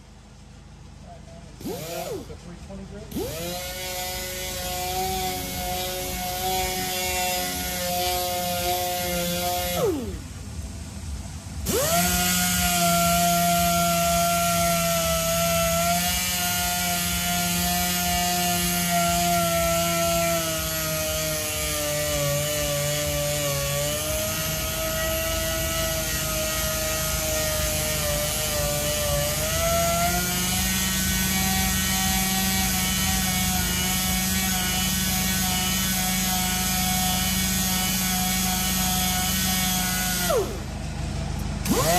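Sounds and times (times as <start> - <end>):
power sander whining: 1.6 - 10.4, 11.6 - 41.9.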